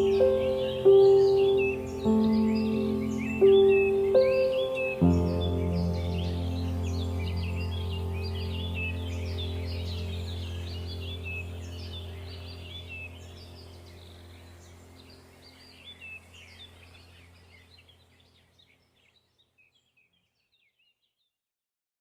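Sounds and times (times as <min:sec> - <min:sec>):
low steady hum: 0:00.0 - 0:18.9
small birds chirping: 0:00.0 - 0:21.4.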